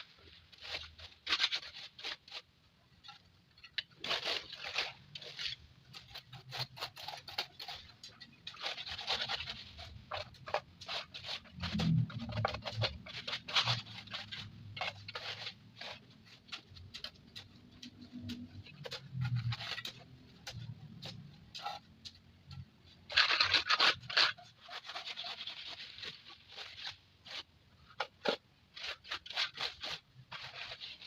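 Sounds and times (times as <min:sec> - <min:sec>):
irregular scraping and scratching: 0:00.0 - 0:31.0.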